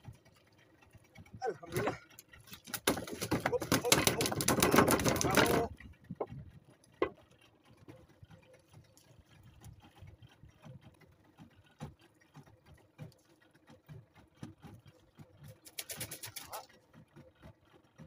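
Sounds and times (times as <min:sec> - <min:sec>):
faint clicks and knocks of fishing tackle: 0:00.0 - 0:18.0.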